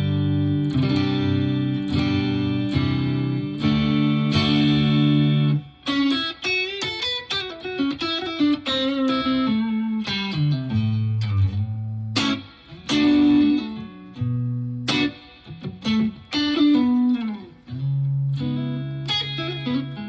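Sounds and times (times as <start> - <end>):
electric guitar chord ringing: 0.0 - 20.0
electric guitar picked notes: 0.0 - 20.0.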